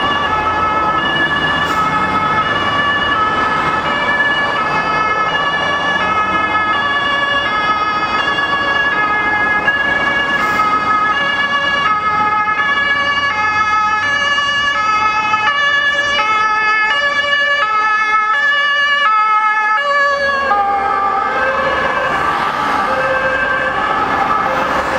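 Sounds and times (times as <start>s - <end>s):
two-tone siren: 0.0s - 24.9s.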